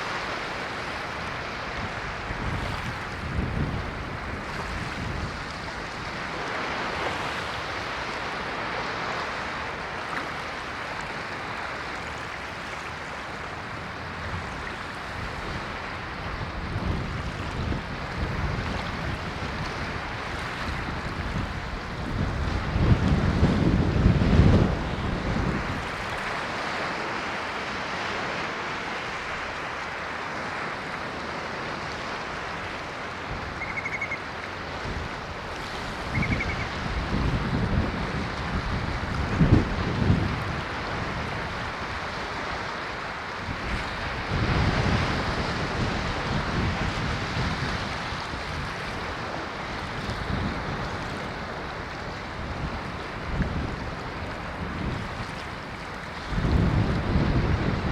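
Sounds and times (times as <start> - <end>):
ocean waves surf: 0.0 - 57.9
wind rumble on microphone: 1.1 - 10.2, 11.0 - 27.1, 31.7 - 57.9.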